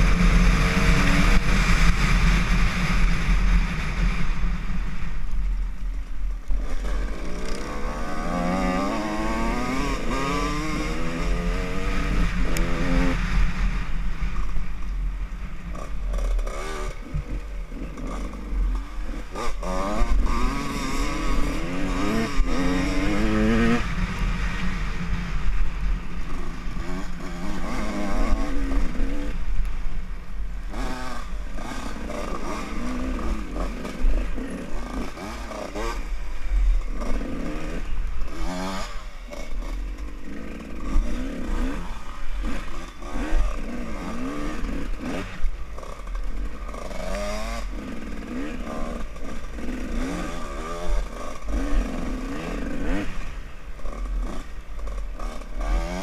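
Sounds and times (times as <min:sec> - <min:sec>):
dirt bike engine revving: 0:00.0 - 0:05.5, 0:06.4 - 0:56.0
wind rumble on microphone: 0:00.0 - 0:47.8.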